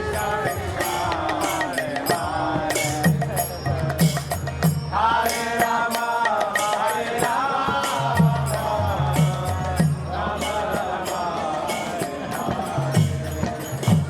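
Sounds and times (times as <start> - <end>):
hand percussion: 0.0 - 14.0
voices chanting: 0.0 - 14.0.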